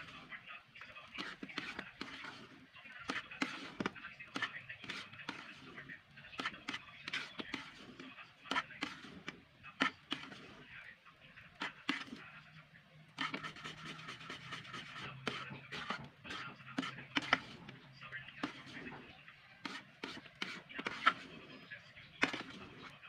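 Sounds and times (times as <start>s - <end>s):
spatula scraping a wok: 0.0s - 10.8s, 11.4s - 23.0s.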